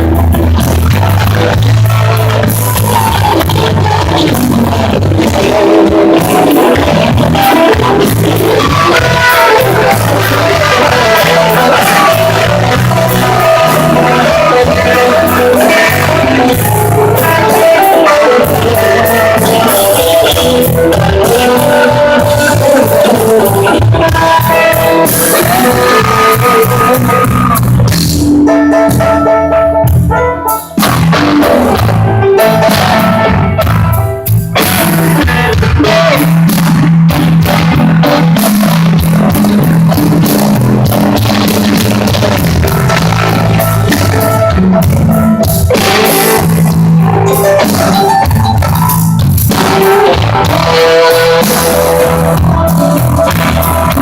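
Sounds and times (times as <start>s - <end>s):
bass line: 0.0s - 54.0s
drum kit: 0.0s - 54.0s
guitar melody: 0.0s - 54.0s
rock band playing live: 0.0s - 54.0s.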